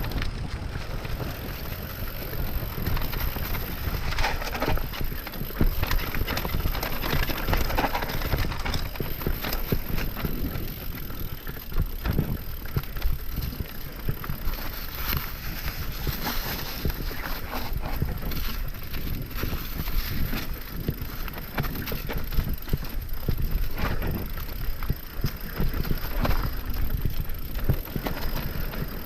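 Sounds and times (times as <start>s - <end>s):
bike rattles and knocks: 0.0s - 29.0s
bike tires rolling on rough ground: 0.0s - 29.0s
wind rumble on microphone: 0.0s - 29.0s.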